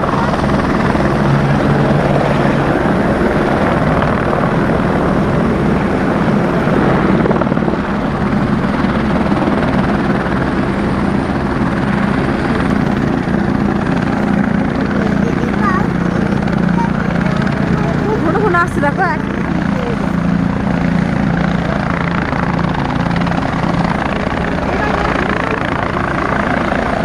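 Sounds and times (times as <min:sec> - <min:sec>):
helicopter rotor chopping: 0:00.0 - 0:27.0.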